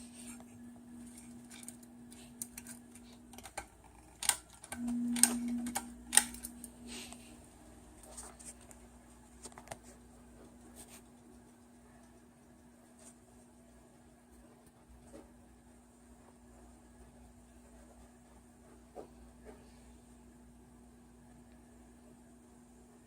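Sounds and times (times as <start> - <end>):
ceiling fan motor humming: 0.0 - 23.0.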